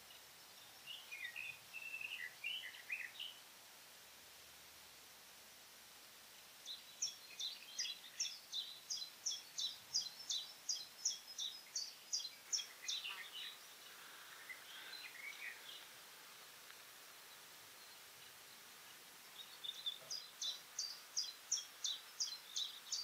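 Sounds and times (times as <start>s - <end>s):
small bird singing: 0.0s - 3.5s, 6.6s - 16.1s, 17.0s - 23.0s
outdoor background noise: 0.0s - 23.0s.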